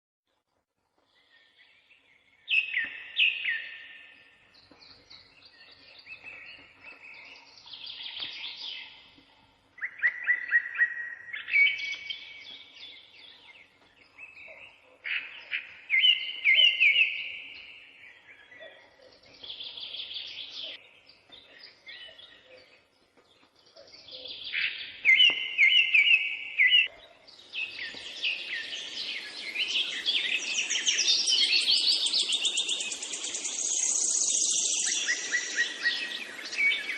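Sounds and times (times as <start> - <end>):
songbirds trilling and chirping: 0.9 - 36.9.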